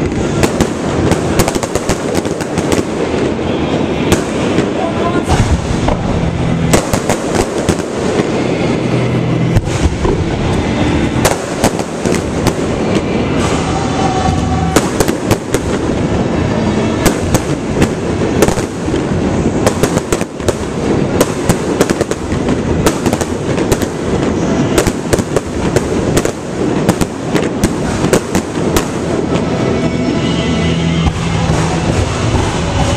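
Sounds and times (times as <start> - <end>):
continuous rumble: 0.0 - 32.9
fireworks bangs and crackles: 0.0 - 32.9.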